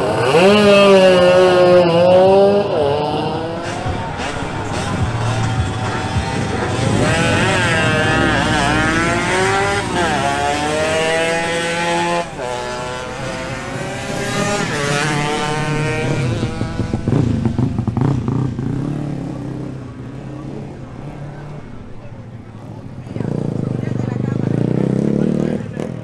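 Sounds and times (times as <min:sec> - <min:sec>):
two-stroke motorcycles accelerating: 0:00.0 - 0:26.0.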